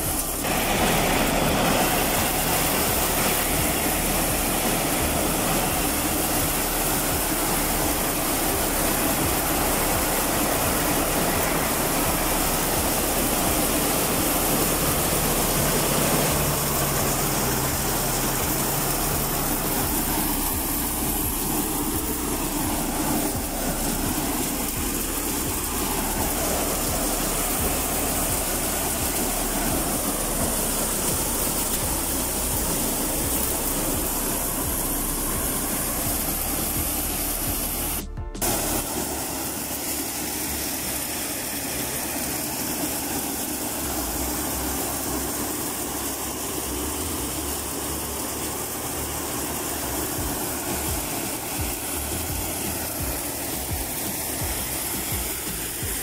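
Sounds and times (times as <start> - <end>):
corn thresher running: 0.0 - 56.0
low hum: 0.0 - 56.0.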